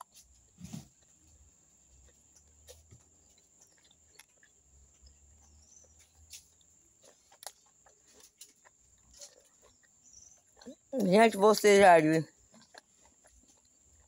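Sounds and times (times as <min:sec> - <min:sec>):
close-up chewing: 0:00.0 - 0:14.0.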